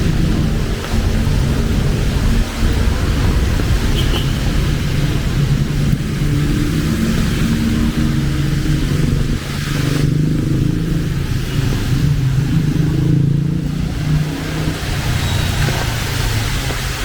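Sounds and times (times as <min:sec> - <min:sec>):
rain hissing: 0:00.0 - 0:17.0
vehicle engines passing: 0:00.0 - 0:17.0.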